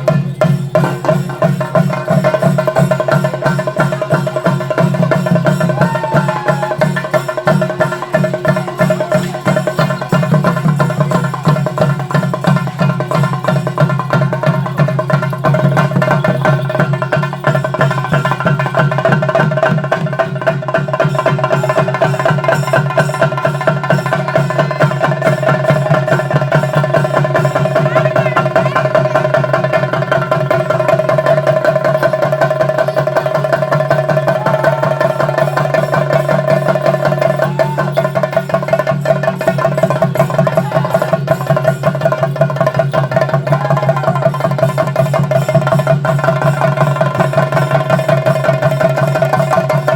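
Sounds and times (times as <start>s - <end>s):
fast drum roll: 0.0s - 49.9s.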